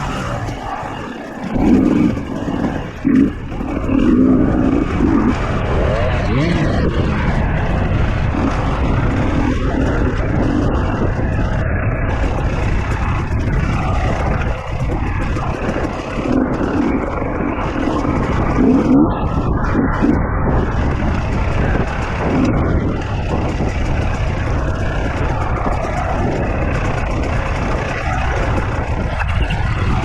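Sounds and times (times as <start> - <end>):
dirt bike engine revving: 0.0 - 30.0
wind noise: 0.0 - 30.0.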